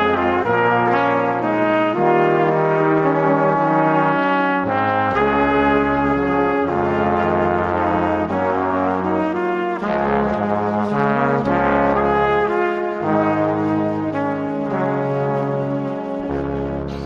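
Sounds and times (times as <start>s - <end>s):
bass line: 0.0s - 17.0s
brass-like melody: 0.0s - 17.0s.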